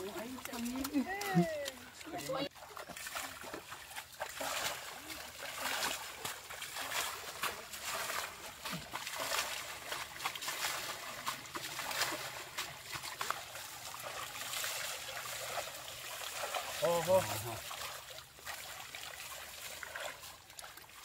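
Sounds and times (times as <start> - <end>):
wading through water: 0.0 - 21.0
water splashing and sloshing: 0.0 - 21.0.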